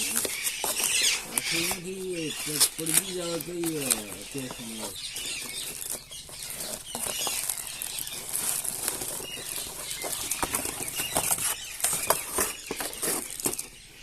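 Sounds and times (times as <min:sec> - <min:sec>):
clicks and crackles: 0:00.0 - 0:13.8
packaging crinkling and rustling: 0:00.0 - 0:13.8.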